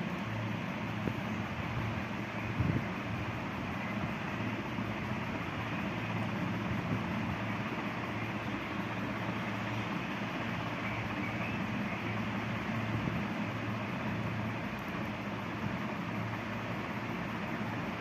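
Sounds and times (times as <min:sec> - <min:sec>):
constant hum: 0:00.0 - 0:18.0
low background rumble: 0:00.0 - 0:18.0.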